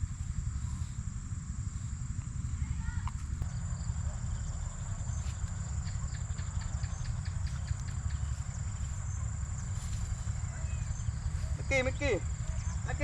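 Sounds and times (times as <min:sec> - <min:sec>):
crickets droning: 0:00.0 - 0:13.0
low rumble: 0:00.0 - 0:13.0.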